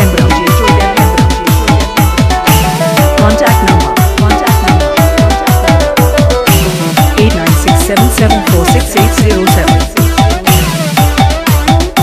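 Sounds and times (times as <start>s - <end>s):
electronic kick drum: 0.0s - 12.0s
fast drum roll: 0.0s - 12.0s
synth melody: 0.0s - 12.0s.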